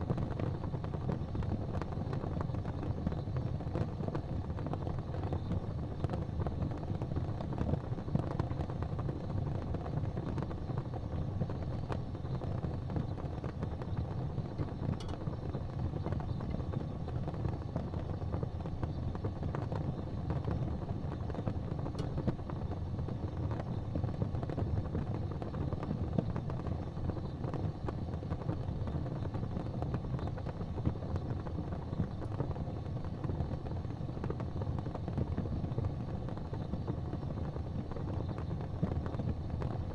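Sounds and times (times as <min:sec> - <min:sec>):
fire crackling: 0:00.0 - 0:39.9
fire flames roaring: 0:00.0 - 0:39.9.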